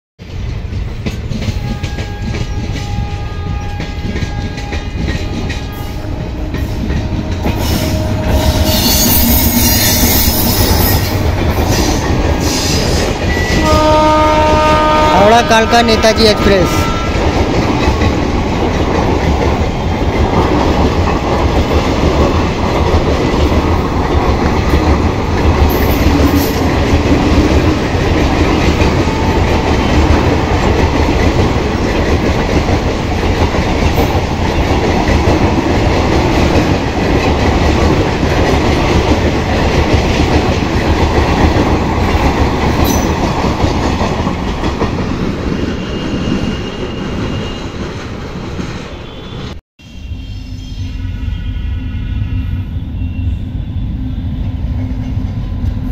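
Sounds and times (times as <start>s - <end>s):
train wheels running over rails: 0.2s - 15.0s, 16.9s - 48.9s.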